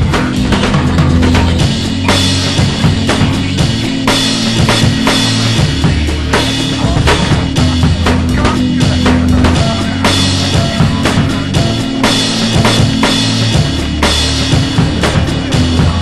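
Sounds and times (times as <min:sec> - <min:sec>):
bass line: 0:00.0 - 0:16.0
drum kit: 0:00.0 - 0:16.0.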